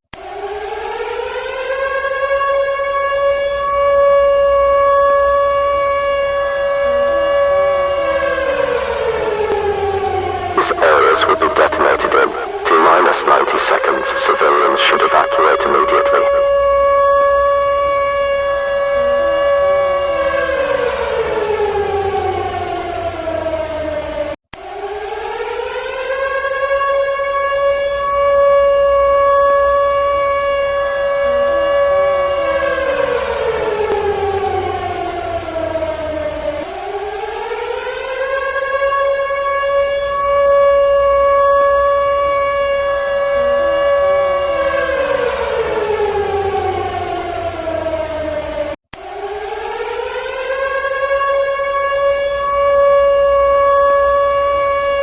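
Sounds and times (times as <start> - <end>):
civil defense siren wailing: 0.1 - 55.0.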